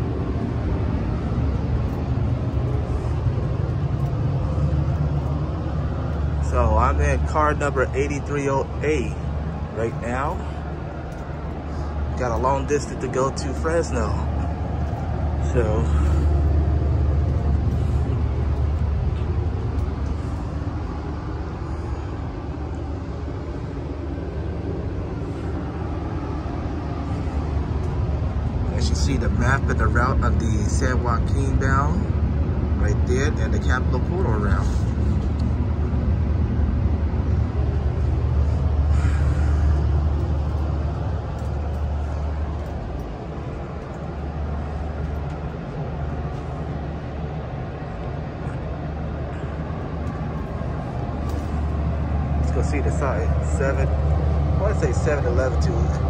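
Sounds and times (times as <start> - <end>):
train car rumble and hum: 0.0 - 56.0.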